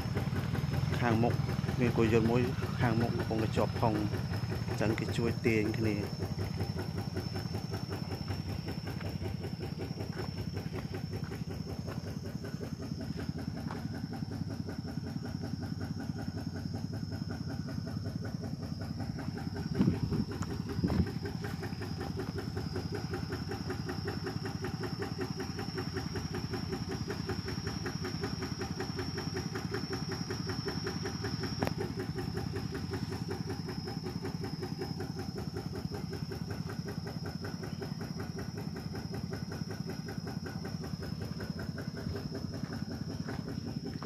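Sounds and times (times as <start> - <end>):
high-pitched insect whine: 0.0 - 44.0
tractor engine running: 0.0 - 44.0.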